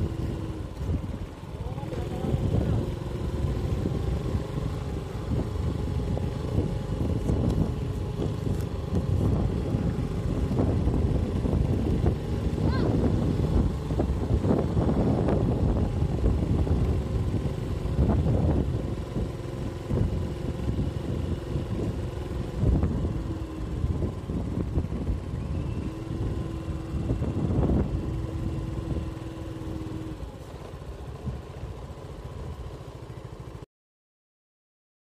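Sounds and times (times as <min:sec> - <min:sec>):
wind rumbling on microphone: 0:00.0 - 0:31.9
motorcycle engine running: 0:00.0 - 0:33.6.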